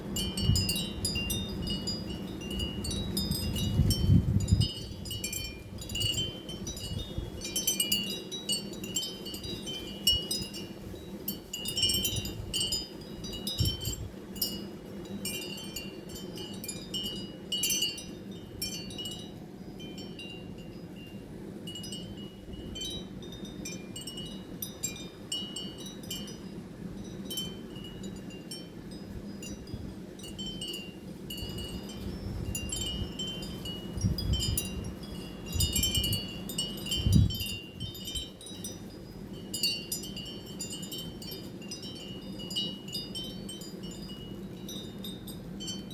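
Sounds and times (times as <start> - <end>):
wind chimes tinkling: 0.2 - 45.9.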